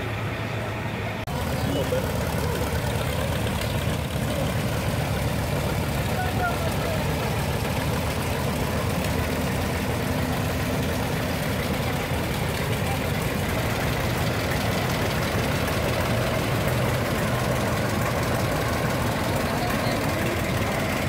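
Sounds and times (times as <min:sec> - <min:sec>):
tractor engines running: 0:00.0 - 0:21.0.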